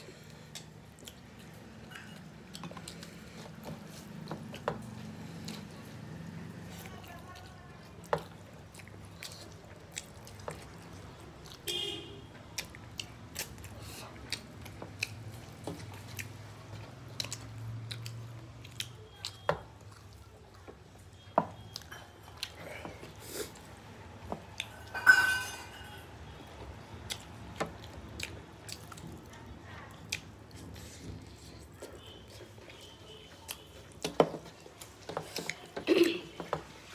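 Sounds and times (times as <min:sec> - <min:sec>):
chewing food: 0:00.0 - 0:25.0, 0:25.8 - 0:36.9.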